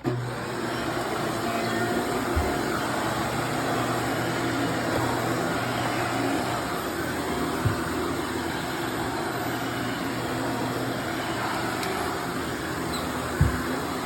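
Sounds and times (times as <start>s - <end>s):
vacuum cleaner suction: 0.0s - 14.0s.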